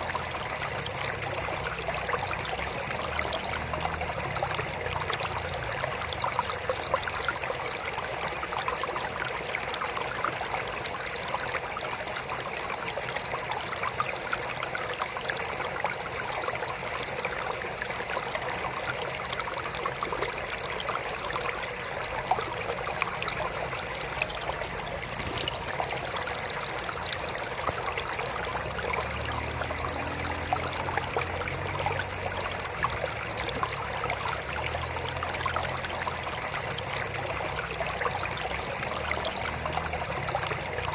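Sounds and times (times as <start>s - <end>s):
water trickling into aquarium: 0.0s - 40.9s.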